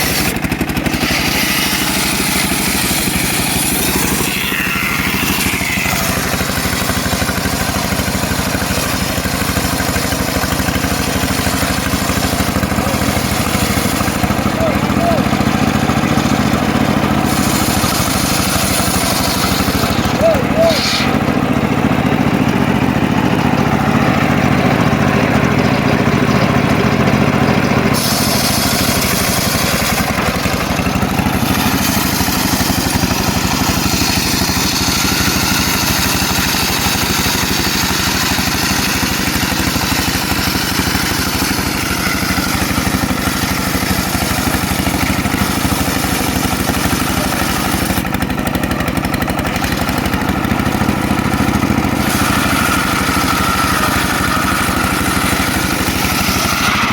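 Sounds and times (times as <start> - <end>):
saw blade rasping through log: 0.0 - 25.6, 27.9 - 48.4, 49.0 - 56.9
sawmill engine running: 0.0 - 56.9.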